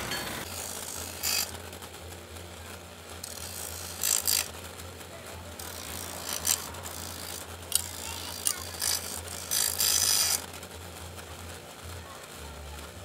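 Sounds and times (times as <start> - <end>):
bench grinder humming: 0.0 - 13.0
blade grinding on wheel: 0.0 - 13.0.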